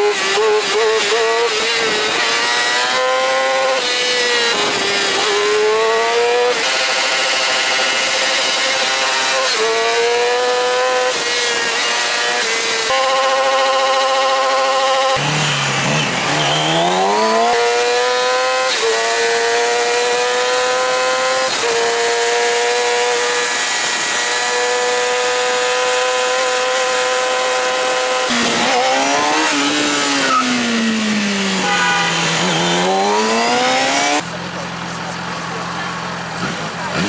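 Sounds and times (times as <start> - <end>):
motorbike engine accelerating: 0.0 - 37.0.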